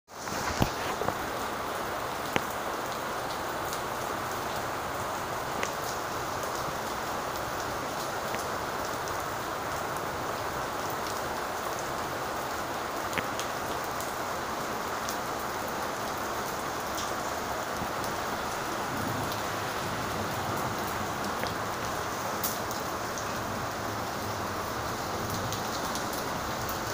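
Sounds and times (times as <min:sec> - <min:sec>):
steady rain on wet ground: 0:00.1 - 0:26.9.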